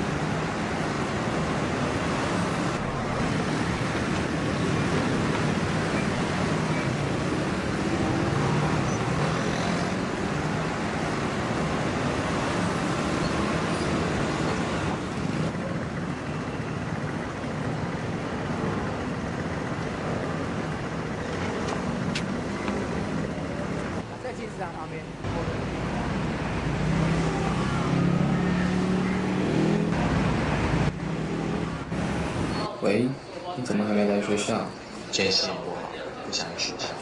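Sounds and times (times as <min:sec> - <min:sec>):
motor scooters: 0:00.0 - 0:24.0, 0:25.2 - 0:32.7
cars passing: 0:00.0 - 0:37.0.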